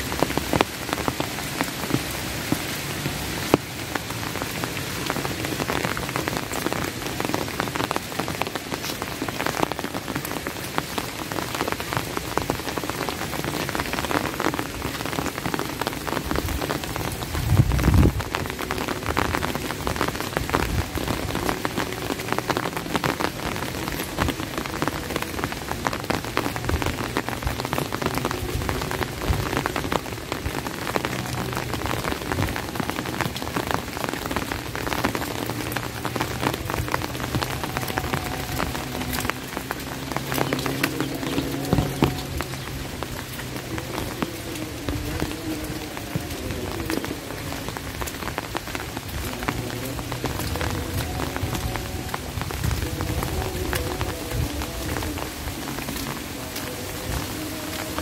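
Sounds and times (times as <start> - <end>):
close raindrop hits: 0.0 - 58.0
steady rain: 0.0 - 58.0.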